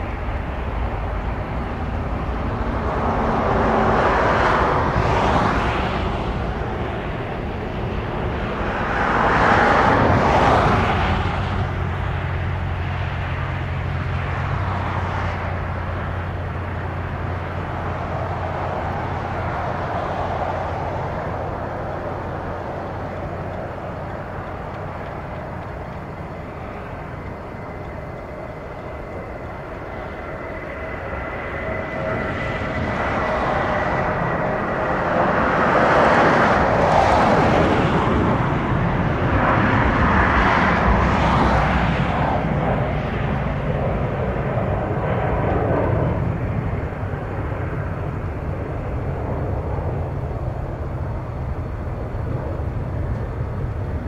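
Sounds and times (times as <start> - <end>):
low engine hum: 0.0 - 54.0
vehicle and aircraft engines: 0.0 - 54.0.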